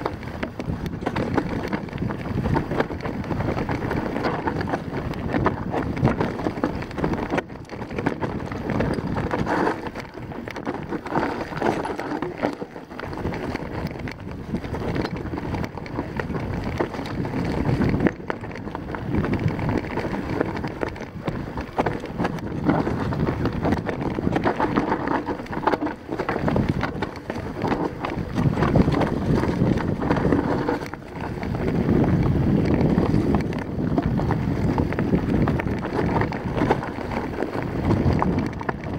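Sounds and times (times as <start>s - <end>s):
bike rattling over rock: 0.0s - 38.9s
tyres crunching over stones: 0.0s - 38.9s
wind rushing on microphone: 0.0s - 38.9s.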